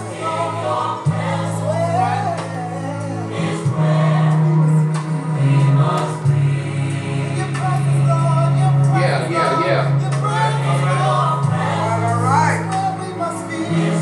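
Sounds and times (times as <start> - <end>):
choir singing: 0.0 - 14.0
sustained low chords: 0.0 - 14.0.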